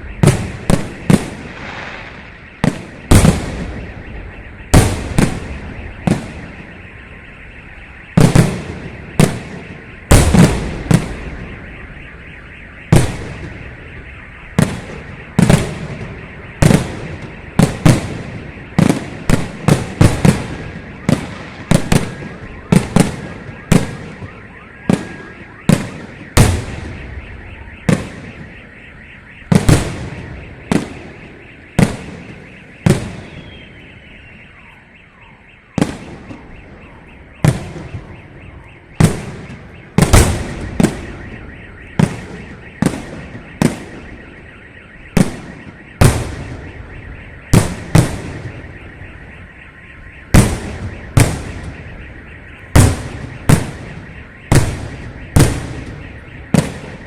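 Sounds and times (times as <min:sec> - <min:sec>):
rolling echo: 0:00.0 - 0:57.0.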